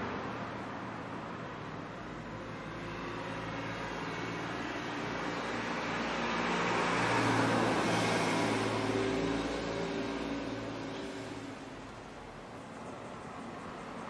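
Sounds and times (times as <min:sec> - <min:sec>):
road vehicle passing: 0:00.0 - 0:14.0.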